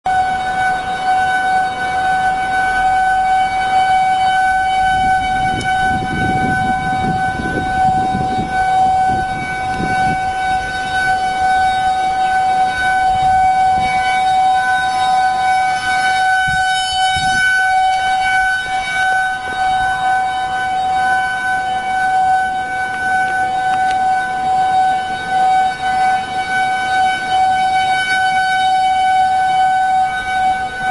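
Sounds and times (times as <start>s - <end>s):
warning siren steady tone: 0.0s - 30.9s
wind gusts on microphone: 0.1s - 30.9s.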